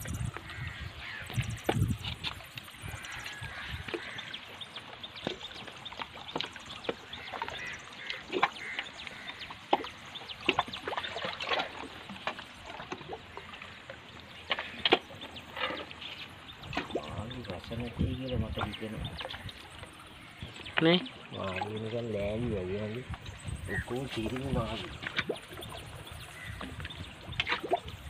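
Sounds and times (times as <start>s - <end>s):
small waves lapping on rocks: 0.2s - 28.0s.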